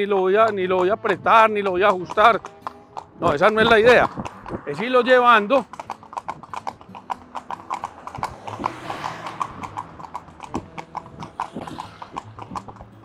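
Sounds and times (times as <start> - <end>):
horse hooves clip-clopping on asphalt: 0.0 - 13.0.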